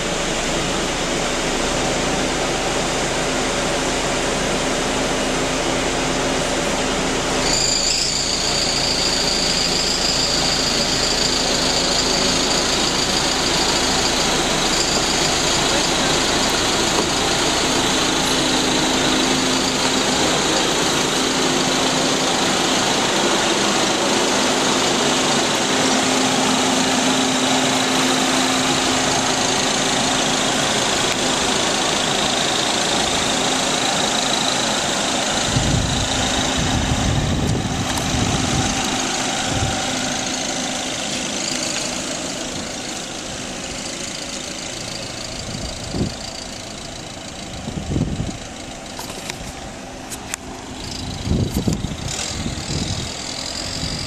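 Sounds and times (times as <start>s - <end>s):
car engine with whistling hiss: 0.0s - 54.0s.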